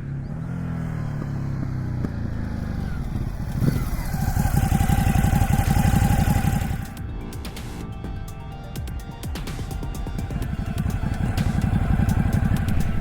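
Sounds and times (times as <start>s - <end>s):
motorcycle engine pulsing: 0.0s - 7.9s, 8.8s - 13.0s.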